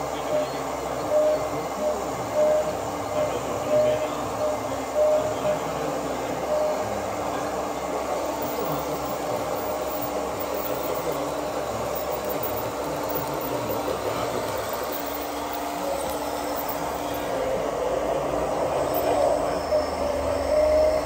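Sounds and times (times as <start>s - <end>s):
model trucks whirring and rumbling: 0.0s - 21.0s.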